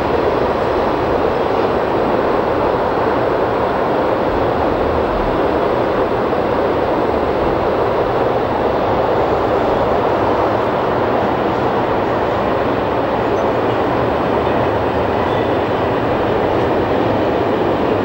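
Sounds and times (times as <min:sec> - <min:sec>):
train wheels rolling on rail: 0:00.0 - 0:18.0.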